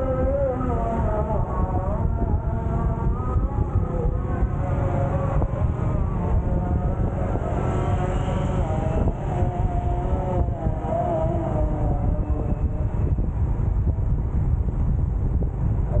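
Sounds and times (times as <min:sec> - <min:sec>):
motorcycle engine hum: 0:00.0 - 0:16.0
wind rumble on microphone: 0:00.0 - 0:16.0.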